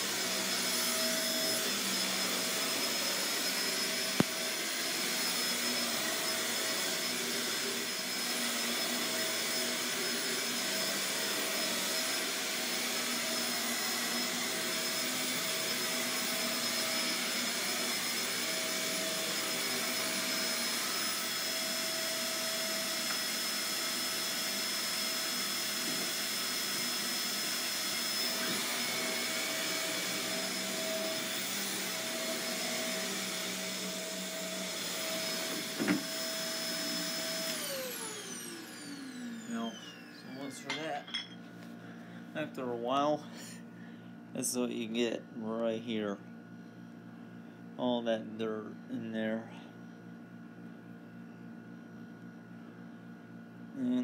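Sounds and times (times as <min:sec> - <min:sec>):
upright vacuum cleaner running: 0:00.0 - 0:44.9.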